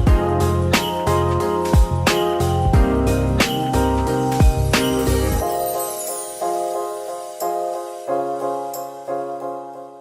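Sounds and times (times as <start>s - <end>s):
soft keyboard chords: 0.0s - 10.0s.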